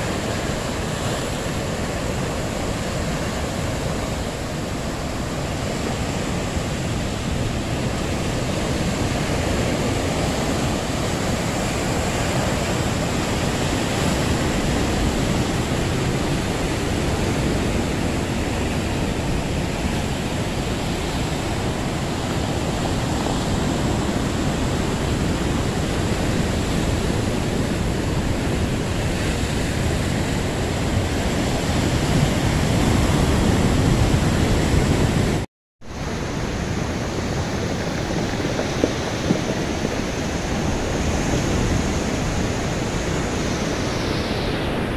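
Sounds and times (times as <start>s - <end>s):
surf breaking on rocky shore: 0.0s - 44.9s
wind on microphone: 0.0s - 44.9s.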